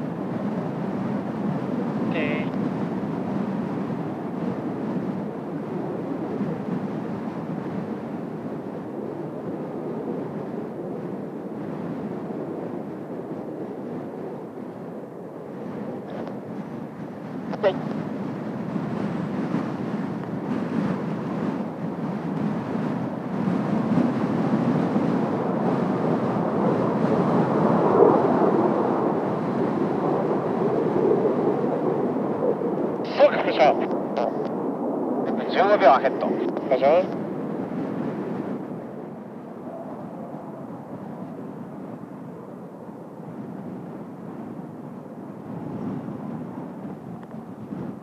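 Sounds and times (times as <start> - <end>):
jet roar: 0.0 - 48.0
wind on microphone: 0.0 - 48.0.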